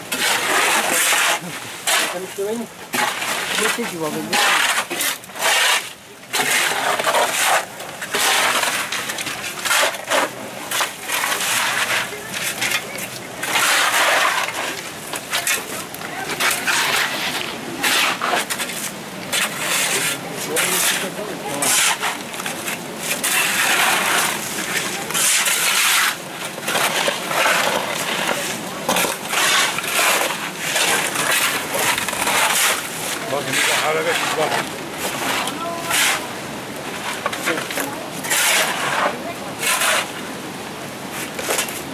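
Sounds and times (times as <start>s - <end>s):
shovels scraping through wet mud: 0.1s - 40.3s.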